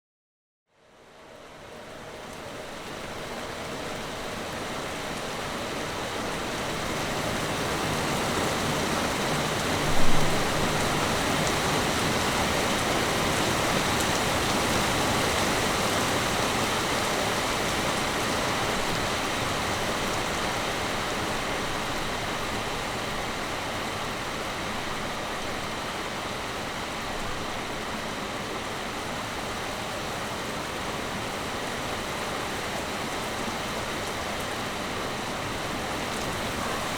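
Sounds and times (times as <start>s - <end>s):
heavy rain pouring: 2.2s - 36.9s.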